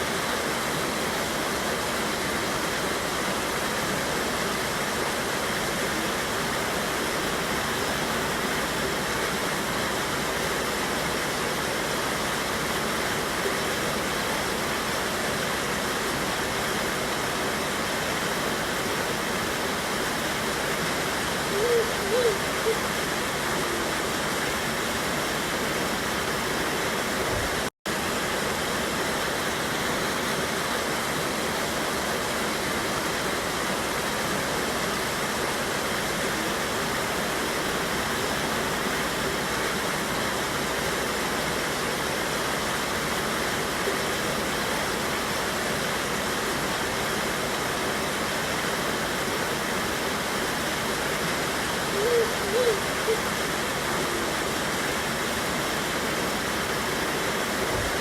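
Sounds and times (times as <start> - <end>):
water rushing over waterfall: 0.0 - 58.0.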